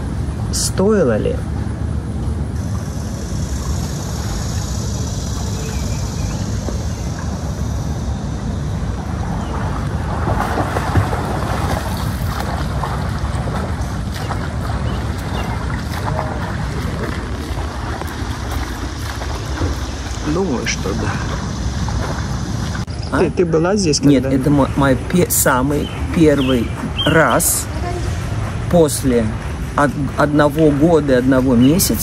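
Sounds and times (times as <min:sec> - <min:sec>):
wind on microphone: 0:01.4 - 0:32.0.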